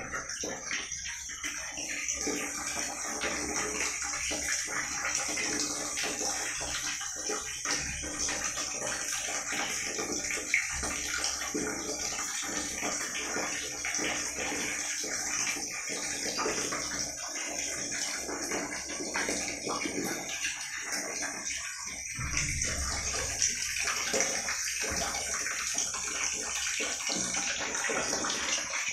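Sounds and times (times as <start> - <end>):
water running and splashing: 0.0 - 28.9.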